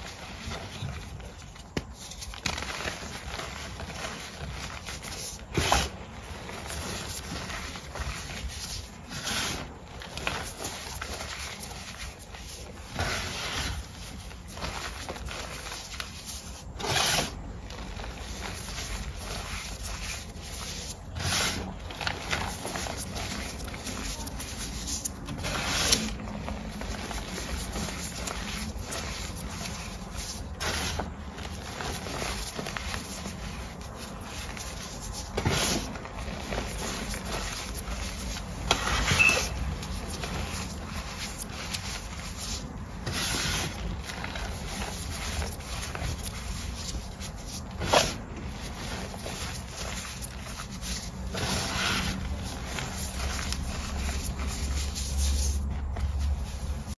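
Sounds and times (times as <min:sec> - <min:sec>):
hands rubbing chalk powder: 0:00.0 - 0:56.9.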